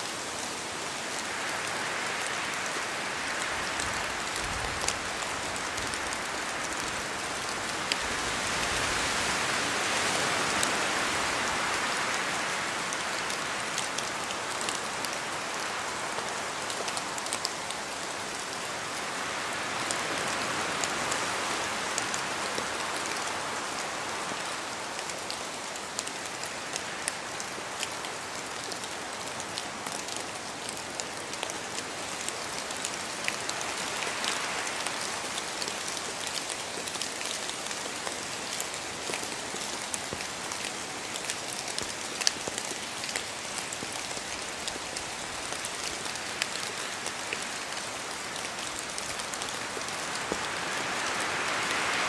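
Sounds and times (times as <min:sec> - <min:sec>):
rain dripping on leaves: 0:00.0 - 0:52.0
steady rain hiss: 0:00.0 - 0:52.0
wind gusting through trees: 0:00.0 - 0:52.0.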